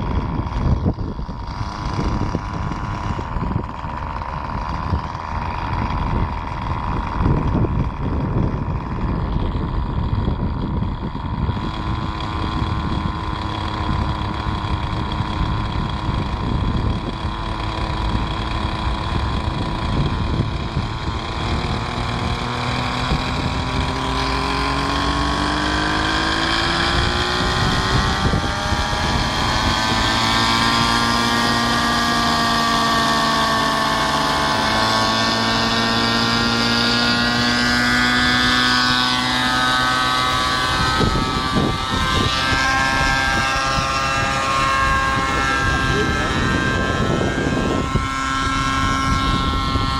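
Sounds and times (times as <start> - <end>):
model helicopter engine running: 0.0 - 49.9
rotor whir: 0.0 - 49.9
wind buffeting microphone: 0.0 - 49.9.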